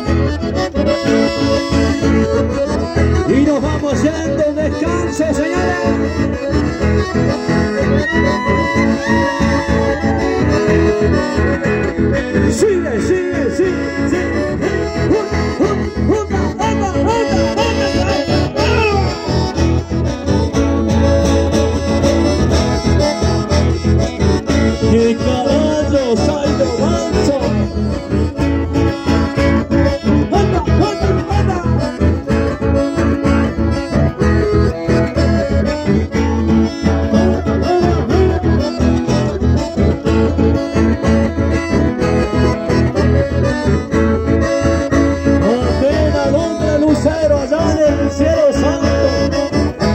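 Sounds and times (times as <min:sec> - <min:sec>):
live band dance music: 0:00.0 - 0:49.9.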